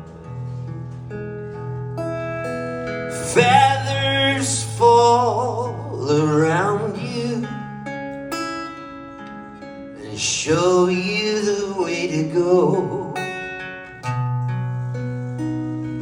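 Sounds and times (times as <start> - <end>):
acoustic guitar notes: 0.0 - 16.0.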